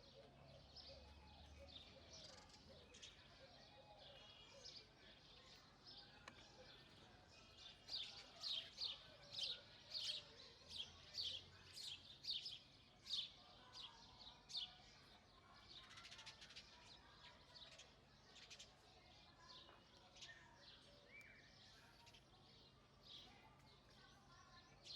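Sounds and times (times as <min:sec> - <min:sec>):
sparrows chirping: 0:00.0 - 0:24.9.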